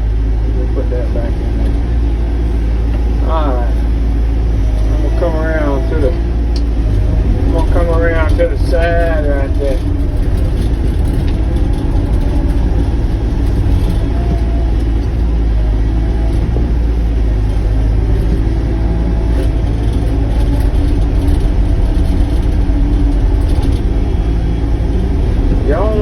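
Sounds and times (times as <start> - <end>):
excavator diesel engine rumbling: 0.0 - 26.0.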